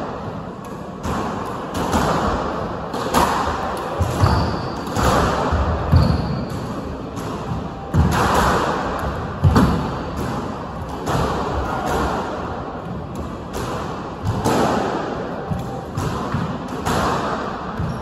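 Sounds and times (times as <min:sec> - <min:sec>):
squash ball impacts echoing: 0:00.0 - 0:18.0.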